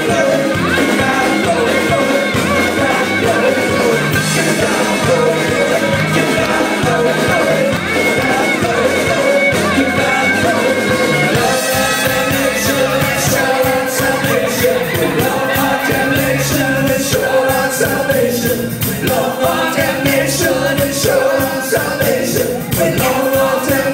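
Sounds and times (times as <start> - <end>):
country-rock band playing: 0.0 - 23.9
person singing: 0.0 - 23.9.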